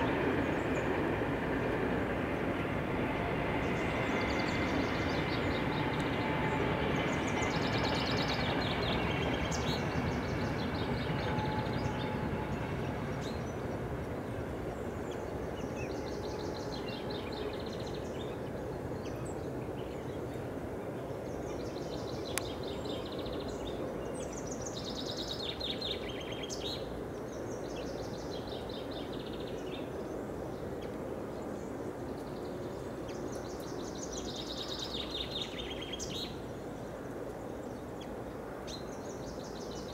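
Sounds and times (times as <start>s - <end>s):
songbirds singing: 2.6s - 39.9s.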